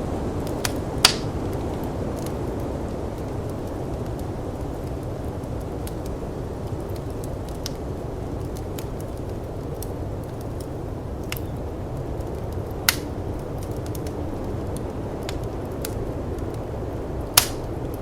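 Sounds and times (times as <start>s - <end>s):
snowstorm wind rushing: 0.0s - 18.0s
wood fire crackling and popping: 0.0s - 18.0s.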